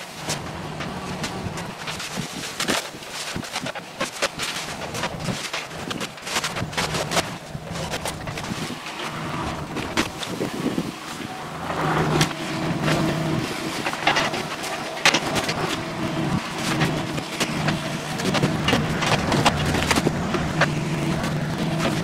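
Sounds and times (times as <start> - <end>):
diesel engine running: 0.0 - 2.8, 4.6 - 22.0
steel tracks clanking on debris: 0.1 - 22.0.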